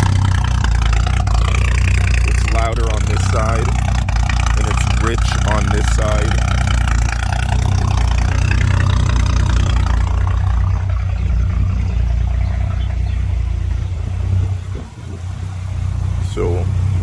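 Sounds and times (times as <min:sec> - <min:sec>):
car engine idling unevenly: 0:00.0 - 0:17.0.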